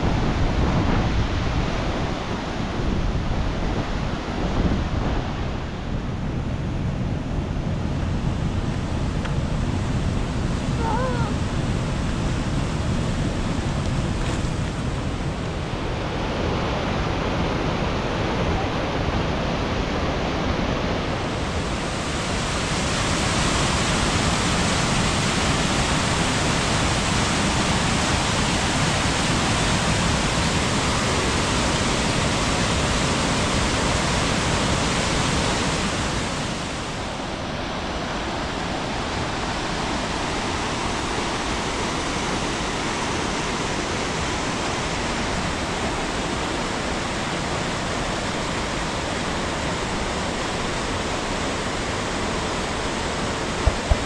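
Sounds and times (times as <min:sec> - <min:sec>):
waterfall rushing: 0:07.7 - 0:54.0.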